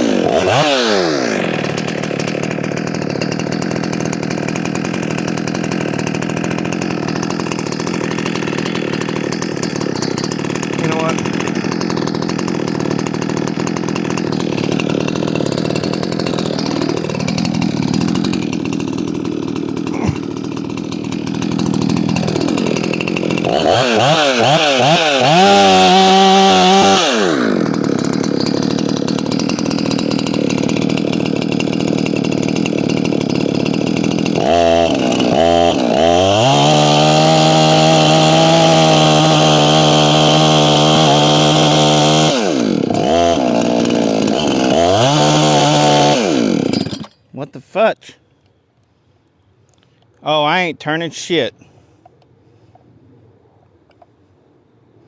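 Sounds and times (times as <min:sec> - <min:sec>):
chainsaw revving: 0:00.0 - 0:47.2.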